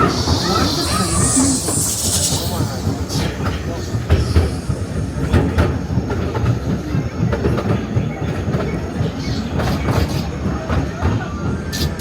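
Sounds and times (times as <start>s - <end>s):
ride train rumbling: 0.0s - 12.0s
wheels and carriages clattering: 0.1s - 12.0s.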